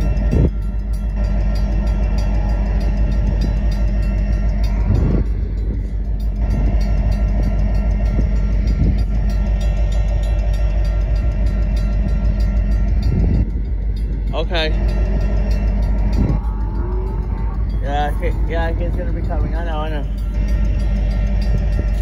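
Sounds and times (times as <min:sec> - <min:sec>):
freight train rumbling past: 0:00.0 - 0:22.0
wheels clicking on rails: 0:00.0 - 0:22.0.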